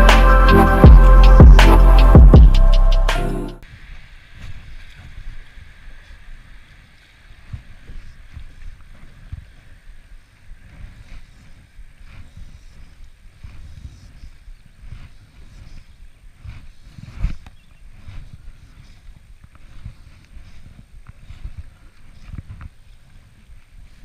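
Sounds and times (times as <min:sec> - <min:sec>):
wind rumbling on microphone: 0:03.6 - 0:24.0.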